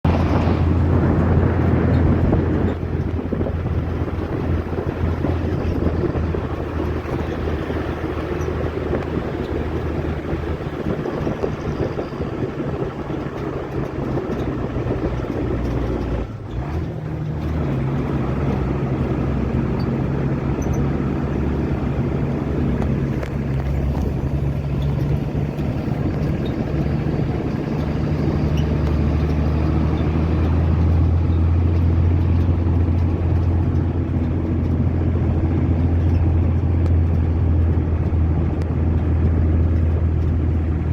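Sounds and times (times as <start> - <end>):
road noise: 0.0 - 40.9
vehicle engine hum: 0.0 - 40.9.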